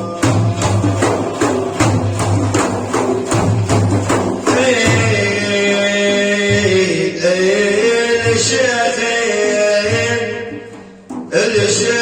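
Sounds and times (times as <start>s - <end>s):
devotional chanting: 0.0s - 12.0s
frame drums beating: 0.0s - 12.0s.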